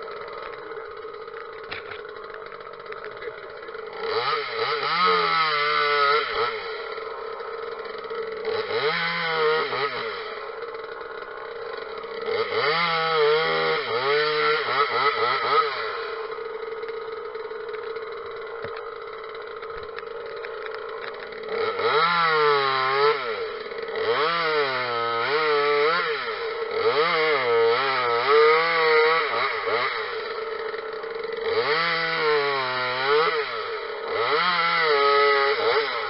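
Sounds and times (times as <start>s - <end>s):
chainsaw revving and cutting logs: 0.0s - 36.0s.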